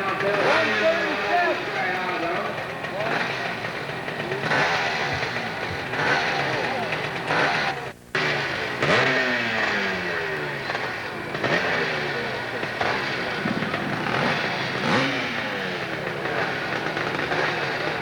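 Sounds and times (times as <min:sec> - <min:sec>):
motorcycle engine revving hard: 0:00.0 - 0:18.0.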